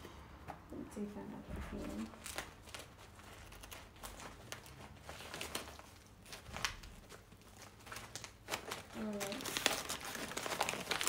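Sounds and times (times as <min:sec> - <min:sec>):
stiff fabric rustling and crinkling: 0:01.4 - 0:11.0.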